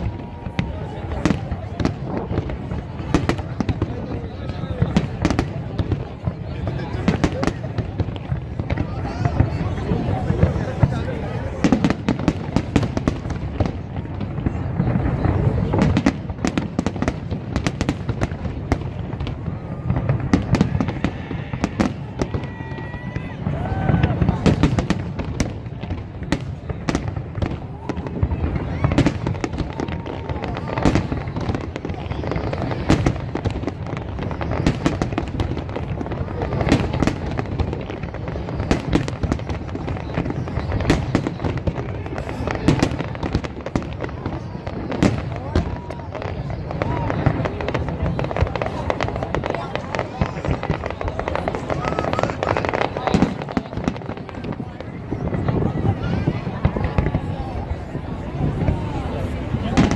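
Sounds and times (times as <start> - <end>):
fireworks cracks and pops: 0.0 - 59.9.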